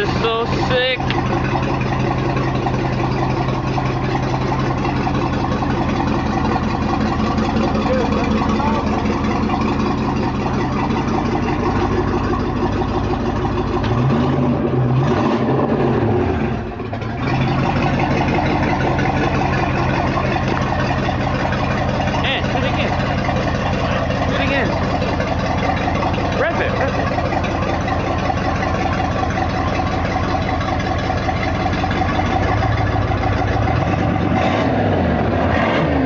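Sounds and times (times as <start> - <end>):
boat engine idling and revving: 0.0 - 36.0.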